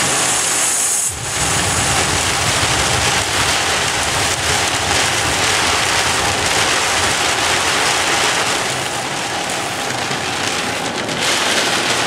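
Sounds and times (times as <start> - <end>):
heavy rain on car roof: 0.0 - 12.0
tyres rumbling on wet road: 0.0 - 12.0.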